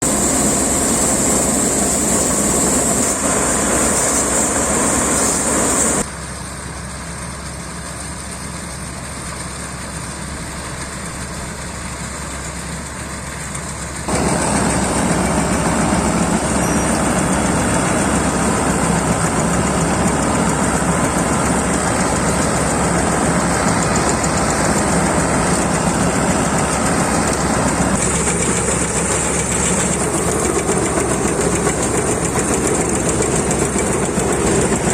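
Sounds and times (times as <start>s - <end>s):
combine harvester drone: 0.0s - 34.9s.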